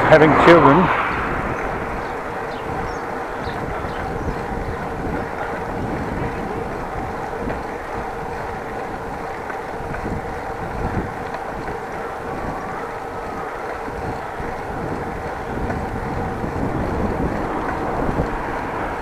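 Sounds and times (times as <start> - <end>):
road rumble: 0.0 - 19.0
wind rushing over microphone: 0.0 - 19.0.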